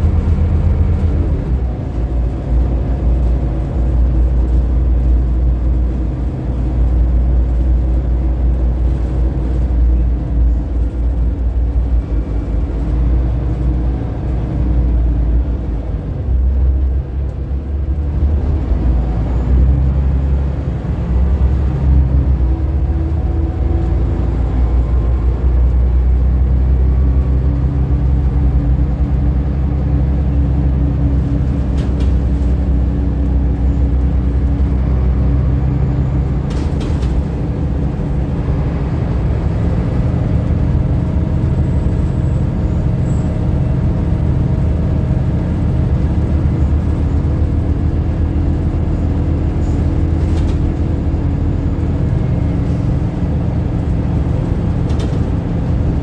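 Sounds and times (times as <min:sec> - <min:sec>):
diesel bus engine droning: 0:00.0 - 0:56.0.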